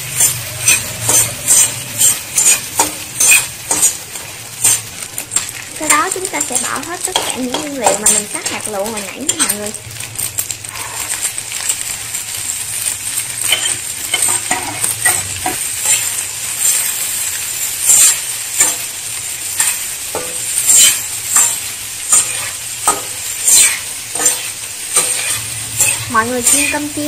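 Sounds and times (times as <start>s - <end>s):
metal spatula scraping a pan: 0.0s - 12.0s, 12.8s - 27.0s
food sizzling in oil in a wok: 0.0s - 27.0s.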